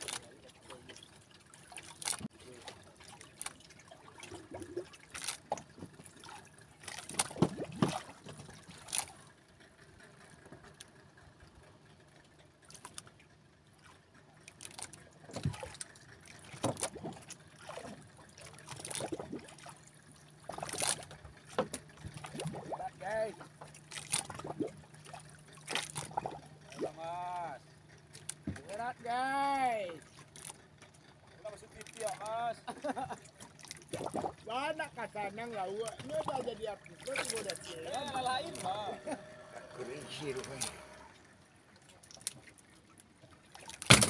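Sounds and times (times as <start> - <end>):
water splashing and trickling: 0.0 - 44.0.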